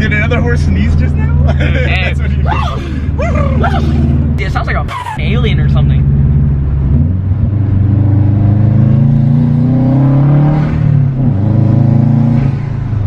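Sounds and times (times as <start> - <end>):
turbocharged car engine accelerating: 0.0 - 13.0.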